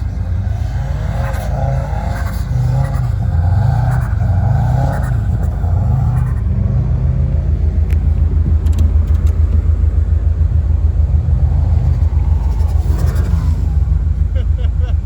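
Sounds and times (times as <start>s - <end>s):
car engine pulsing rumble: 0.0s - 15.0s.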